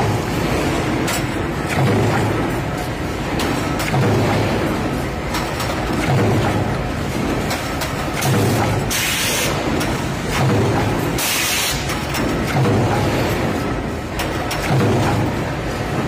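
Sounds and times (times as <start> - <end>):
stamping press hum: 0.0 - 16.0.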